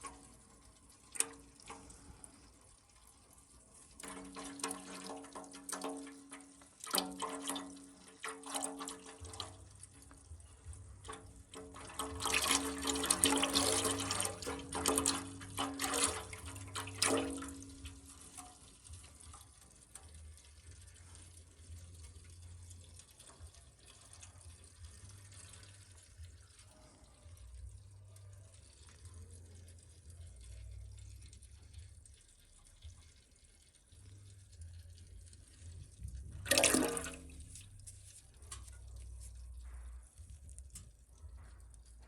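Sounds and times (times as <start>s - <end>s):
oil draining into a pan: 0.0s - 42.0s.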